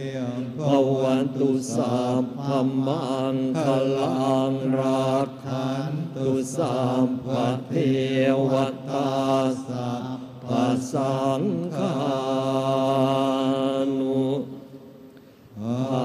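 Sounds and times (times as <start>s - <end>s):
monks chanting in unison: 0.0s - 14.9s, 15.5s - 16.0s.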